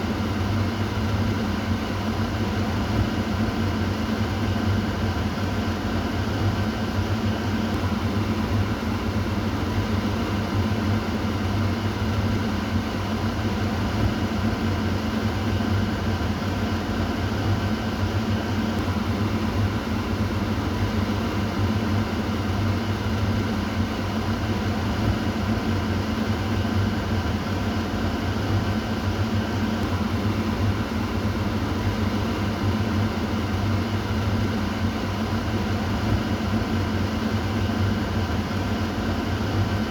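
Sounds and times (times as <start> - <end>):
exhaust fan whooshing hum: 0.0 - 39.9.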